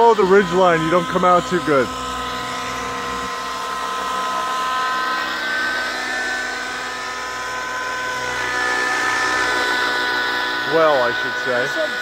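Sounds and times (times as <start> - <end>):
rc helicopter engine whine: 0.0 - 12.0
rotor rushing: 0.0 - 12.0.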